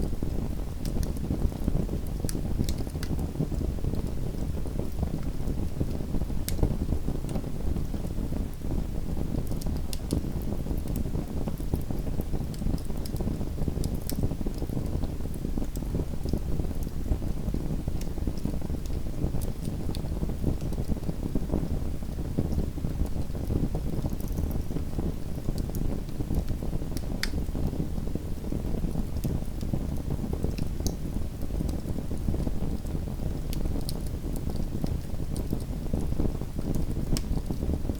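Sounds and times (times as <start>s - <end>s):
burning wood crackling and popping: 0.0s - 37.9s
flames rumbling: 0.0s - 37.9s.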